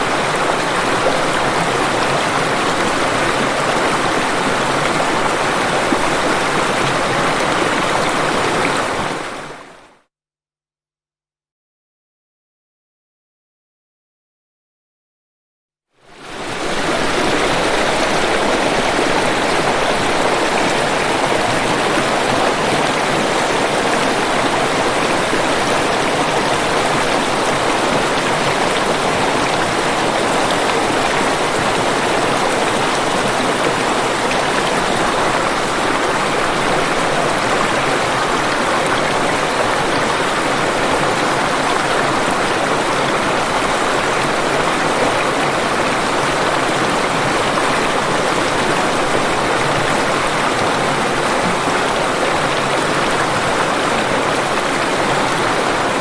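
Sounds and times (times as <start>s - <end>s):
waterfall rushing: 0.0s - 9.7s, 16.1s - 56.0s.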